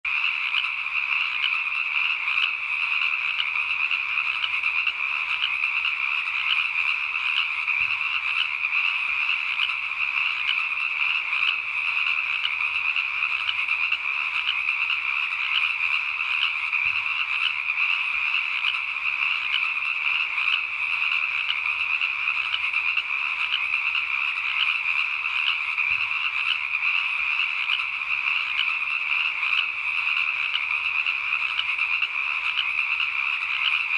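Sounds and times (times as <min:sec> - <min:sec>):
chorus of frogs calling: 0:00.1 - 0:33.9.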